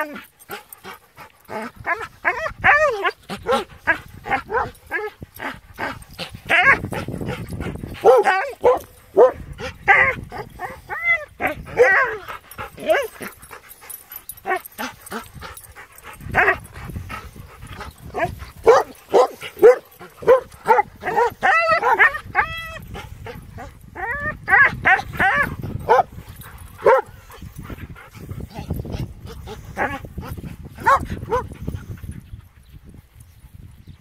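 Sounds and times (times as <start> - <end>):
dogs barking and yipping: 0.0 - 32.2.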